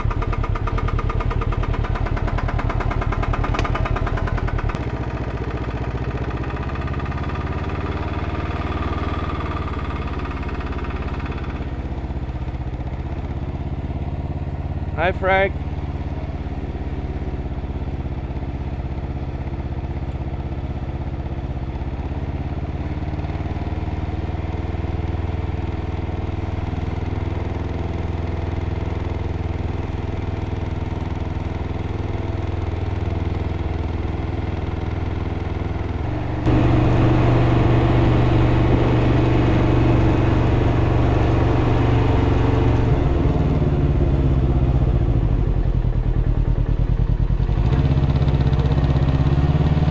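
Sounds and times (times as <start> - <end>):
engine knocking: 0.0 - 49.9
engine running: 0.0 - 49.9.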